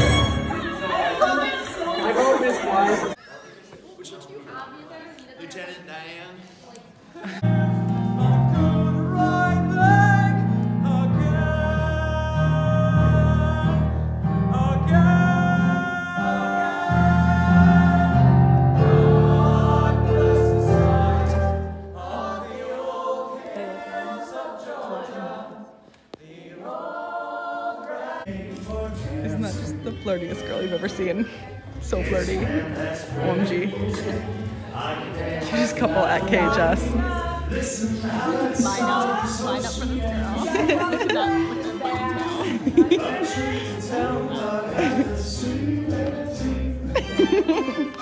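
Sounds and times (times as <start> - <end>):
people singing in chorus: 7.3 - 48.0.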